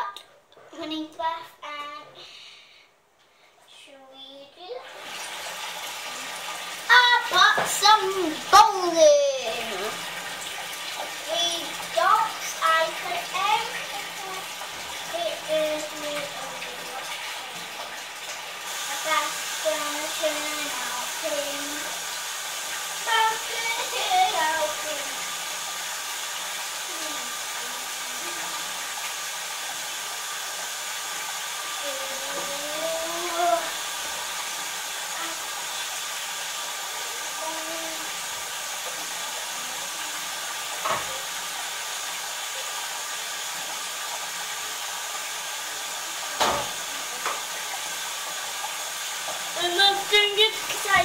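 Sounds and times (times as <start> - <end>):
bath tap running into tub: 4.6 - 51.0.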